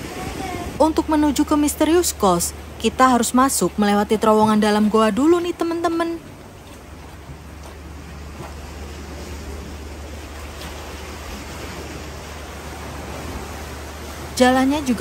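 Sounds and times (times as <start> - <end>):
sea surf on rocky shore: 0.0 - 15.0.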